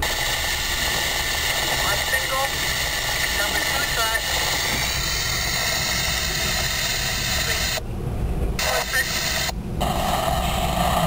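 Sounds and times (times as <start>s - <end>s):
radio scanner hiss: 0.0s - 7.8s, 8.6s - 11.0s.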